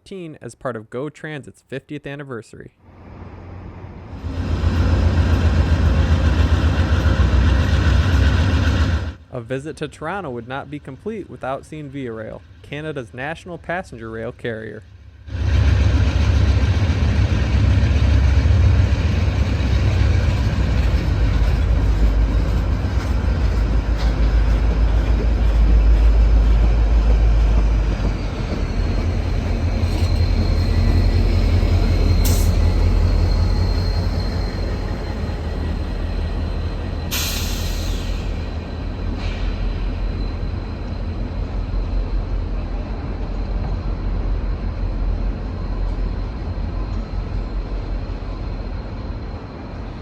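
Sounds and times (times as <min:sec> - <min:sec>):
train passing rumble: 0:02.8 - 0:50.0.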